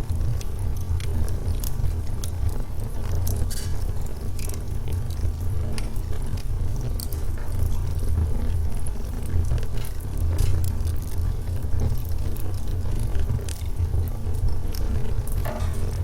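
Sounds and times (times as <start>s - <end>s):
fire crackling and snapping: 0.0s - 16.0s
low rumble of flames: 0.0s - 16.0s.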